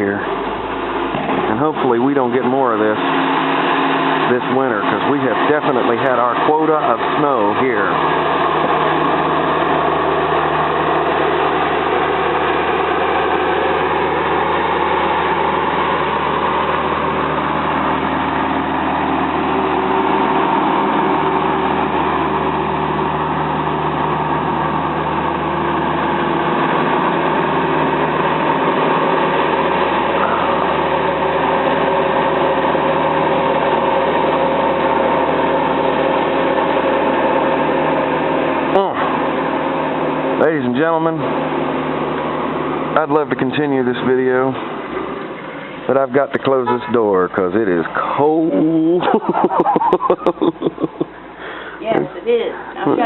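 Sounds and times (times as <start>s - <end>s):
heavy machinery engines running: 0.0s - 53.0s.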